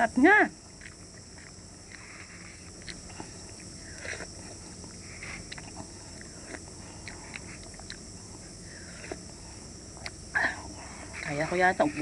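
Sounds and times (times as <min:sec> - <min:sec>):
person chewing: 0:00.7 - 0:11.3.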